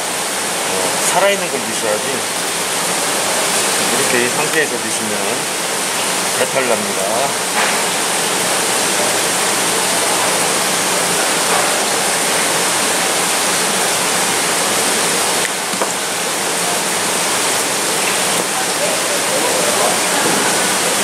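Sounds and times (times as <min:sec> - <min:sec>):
running water: 0:00.0 - 0:21.0.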